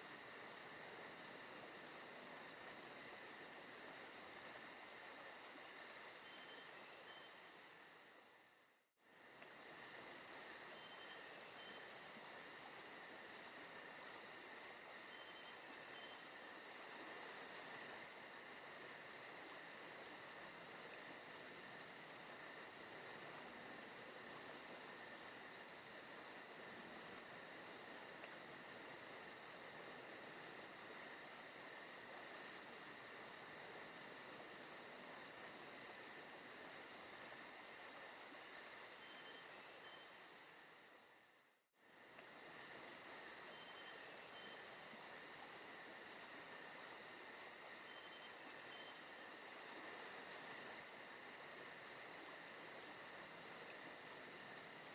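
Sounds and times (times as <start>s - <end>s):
crickets chirring: 0.1s - 54.9s.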